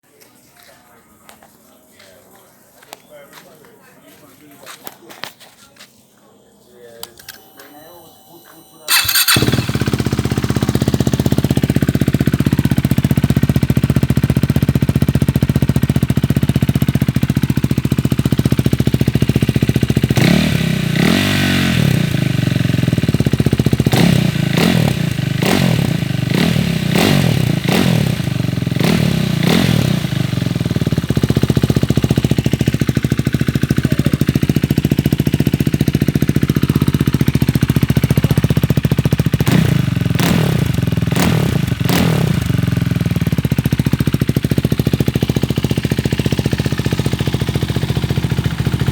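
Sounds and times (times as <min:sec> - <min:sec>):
motorcycle engine idling and revving: 0:08.9 - 0:48.9.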